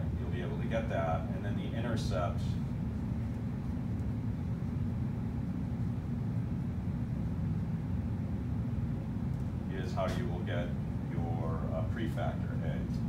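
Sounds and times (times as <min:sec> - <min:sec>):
room ventilation rumble: 0:00.0 - 0:13.0.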